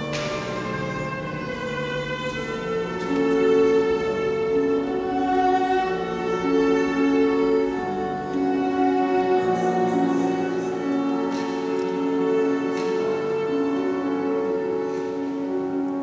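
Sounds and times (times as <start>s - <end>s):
piano accompaniment: 0.0s - 16.0s
viola melody: 0.0s - 16.0s.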